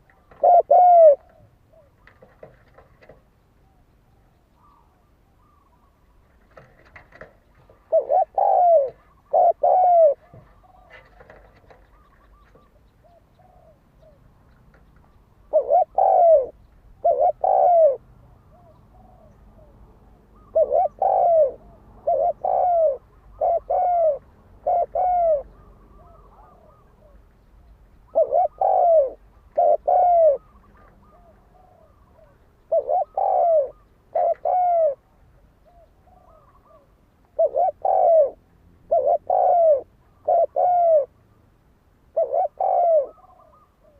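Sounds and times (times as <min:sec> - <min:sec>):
dove cooing: 0:00.0 - 0:27.3, 0:28.0 - 0:41.2, 0:42.1 - 0:43.9.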